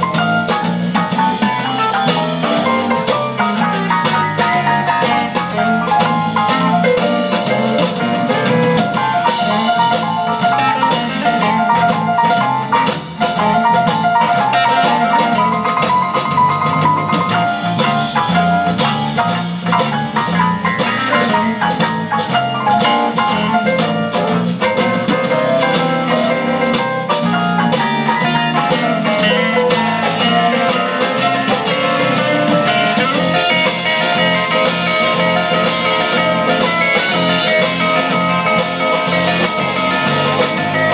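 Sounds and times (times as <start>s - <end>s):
blues band playing: 0.0s - 40.9s.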